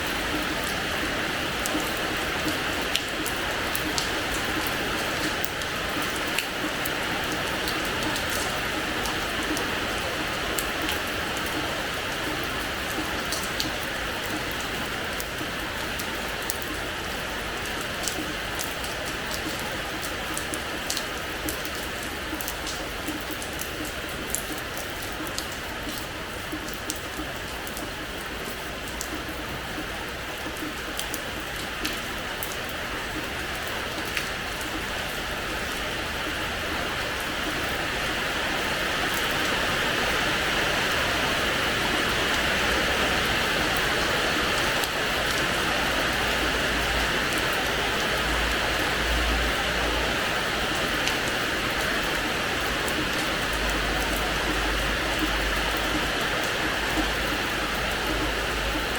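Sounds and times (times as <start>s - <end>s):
rain on a hard floor: 0.0s - 58.9s.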